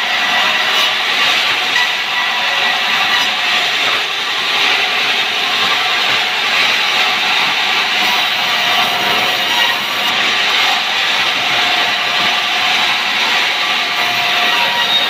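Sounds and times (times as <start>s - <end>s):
band saw hiss and whine: 0.0s - 15.0s.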